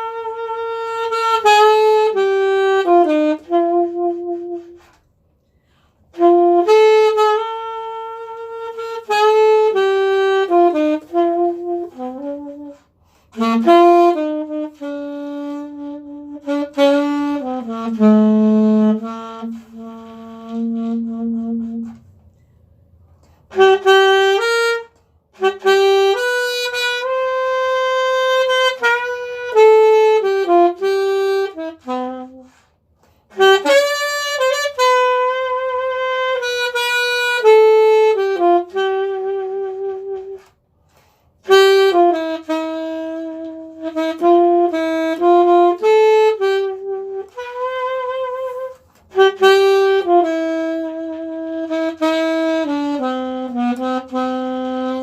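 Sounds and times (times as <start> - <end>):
solo saxophone slow melody: 0.0 - 55.0.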